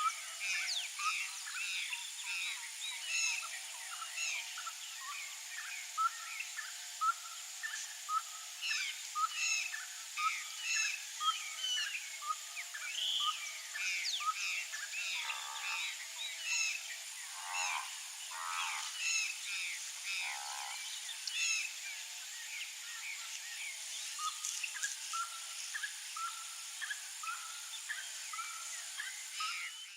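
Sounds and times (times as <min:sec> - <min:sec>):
low buzzy bird calls: 0:00.0 - 0:29.9.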